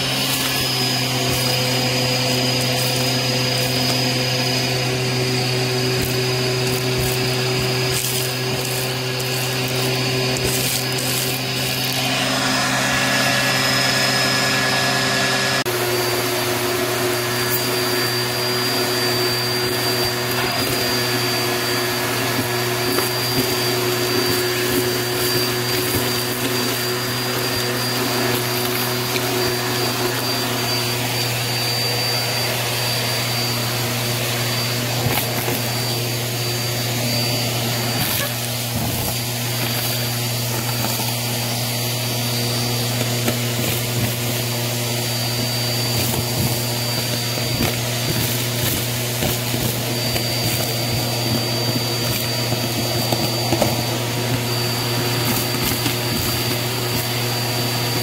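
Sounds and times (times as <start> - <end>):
vacuum cleaner running: 0.0 - 58.0
debris crackling in vacuum hose: 0.1 - 13.8, 15.7 - 58.0.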